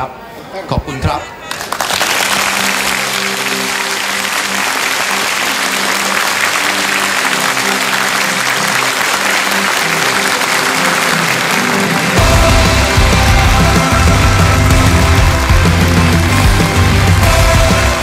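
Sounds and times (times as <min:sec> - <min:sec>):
background music: 0:01.0 - 0:18.0
crowd clapping: 0:01.5 - 0:18.0.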